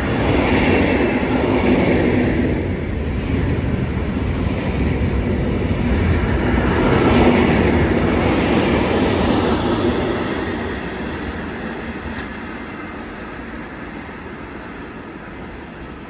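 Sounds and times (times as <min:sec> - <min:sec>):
freight train rolling past: 0:00.0 - 0:16.0.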